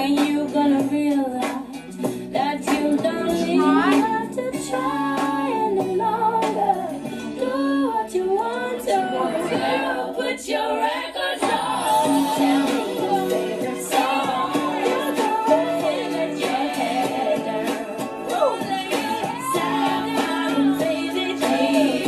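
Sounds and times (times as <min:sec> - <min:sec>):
woman singing a song with beat: 0:00.0 - 0:22.0.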